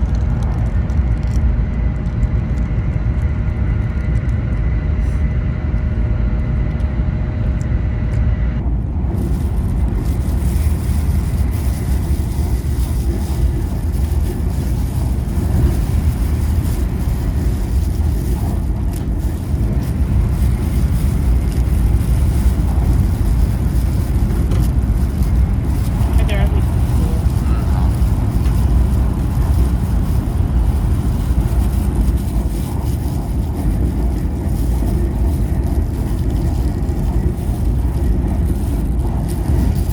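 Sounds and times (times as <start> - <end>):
faint steady whine: 0.0 - 39.9
train low rumble: 0.0 - 39.9.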